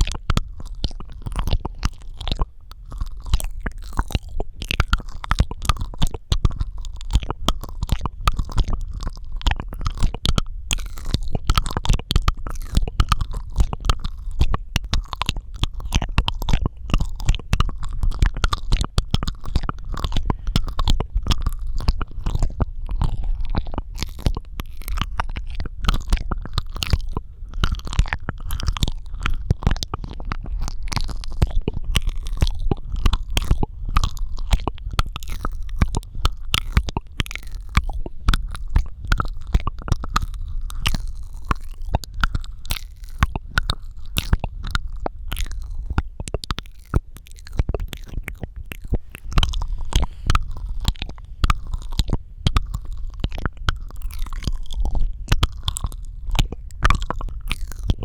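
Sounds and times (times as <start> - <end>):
wet mouth clicks and smacks: 0.0 - 58.0.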